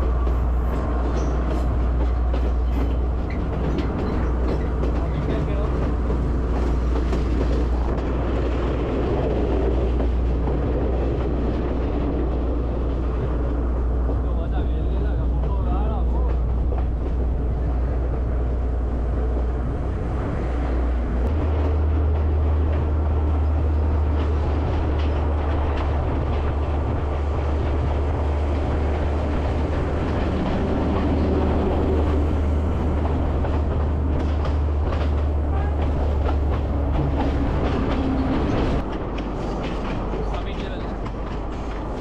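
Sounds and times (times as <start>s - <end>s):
wheels clacking over rail joints: 0.0s - 20.6s, 21.2s - 42.0s
train rumbling along track: 0.0s - 42.0s.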